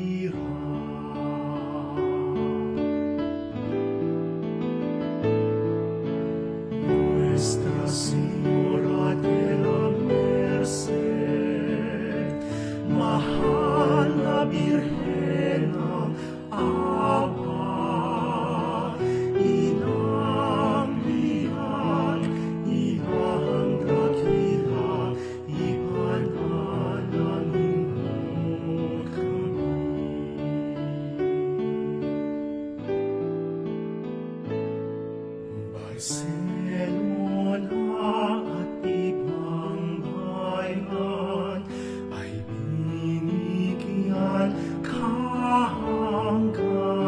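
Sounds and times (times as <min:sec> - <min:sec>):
person singing with vibrato: 0:00.0 - 0:03.0, 0:06.7 - 0:32.2, 0:35.5 - 0:47.0.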